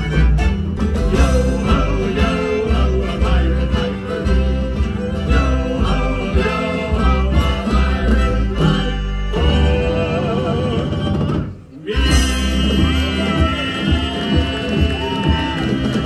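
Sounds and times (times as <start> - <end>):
live country band playing: 0.0 - 16.0.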